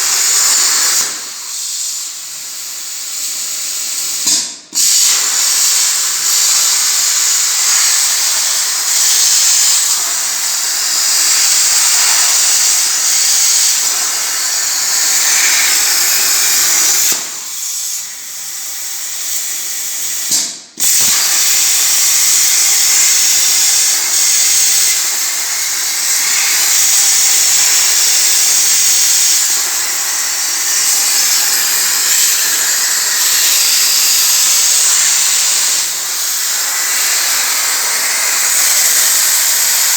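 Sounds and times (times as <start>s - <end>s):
plasma torch hissing: 0.0s - 39.9s.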